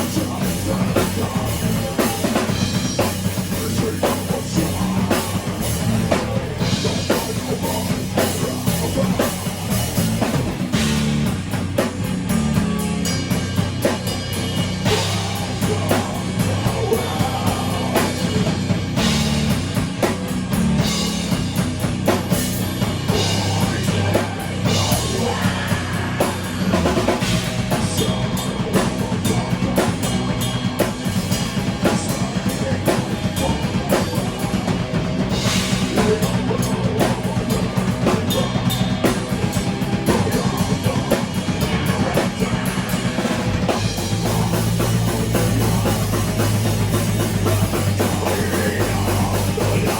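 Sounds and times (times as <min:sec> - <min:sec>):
drum kit beat: 0:00.0 - 0:49.9
guitars: 0:00.0 - 0:49.9
rock band playing: 0:00.0 - 0:49.9.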